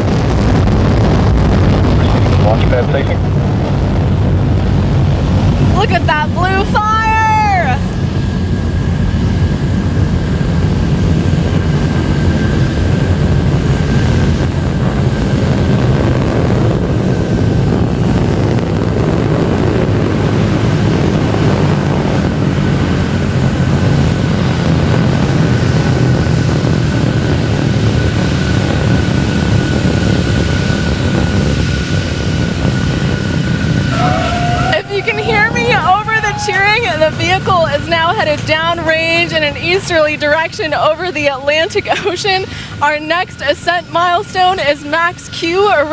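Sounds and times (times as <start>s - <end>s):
rocket engines roaring: 0.0s - 45.9s.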